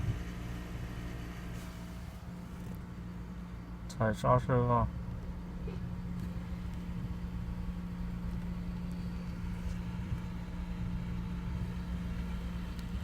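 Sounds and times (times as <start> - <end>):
car engine low hum: 0.0 - 13.0.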